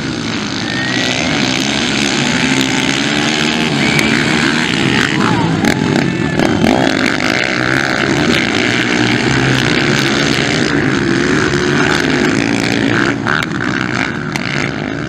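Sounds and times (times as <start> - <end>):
motocross bike engines racing: 0.0 - 15.0.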